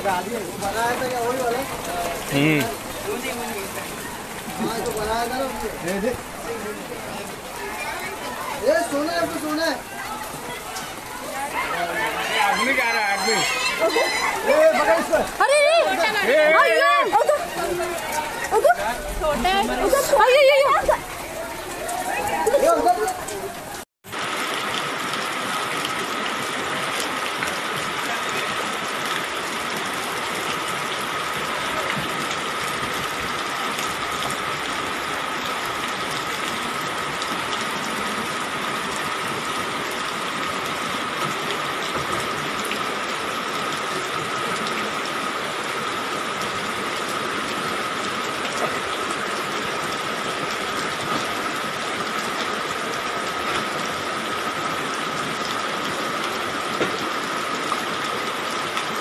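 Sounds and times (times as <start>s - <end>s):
rain: 0.0s - 59.0s
rushing floodwater: 0.0s - 59.0s.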